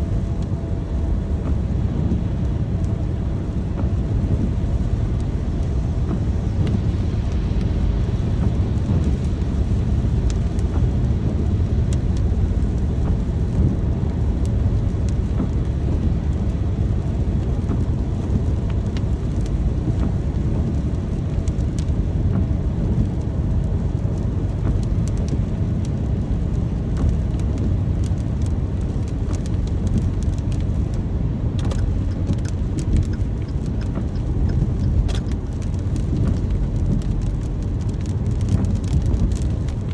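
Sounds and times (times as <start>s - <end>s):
sharp raindrop ticks: 0.0s - 39.9s
steady rain: 0.0s - 39.9s.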